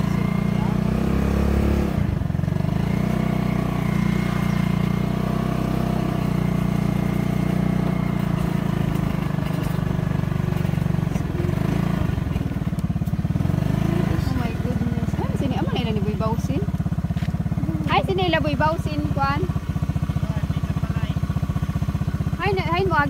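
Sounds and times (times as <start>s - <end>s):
small motorcycle engine running: 0.0s - 23.0s.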